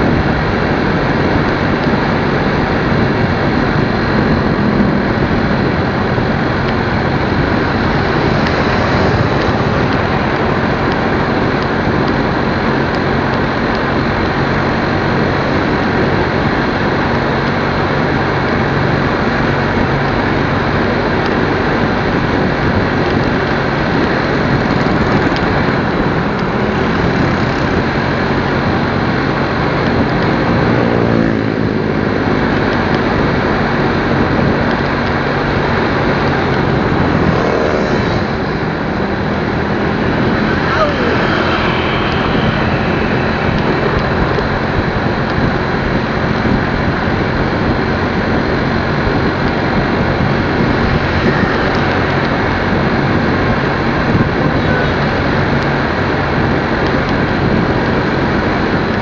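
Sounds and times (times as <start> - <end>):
low motorcycle engine hum: 0.0 - 59.0
wind and road noise: 0.0 - 59.0.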